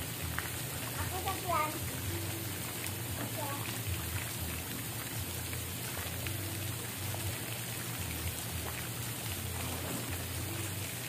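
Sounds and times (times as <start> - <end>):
drip-like ticks: 0.0 - 11.0
water running and splashing: 0.0 - 11.0.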